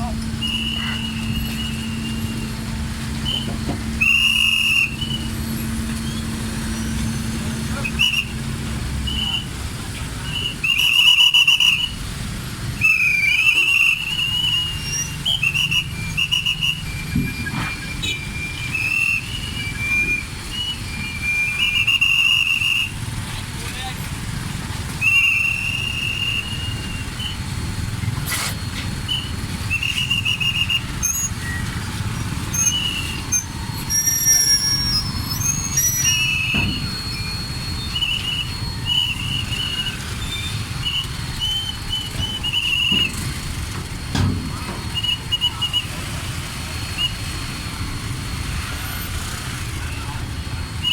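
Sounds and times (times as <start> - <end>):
vehicle engines rumbling: 0.0 - 50.9
whistle blasts: 0.0 - 50.9.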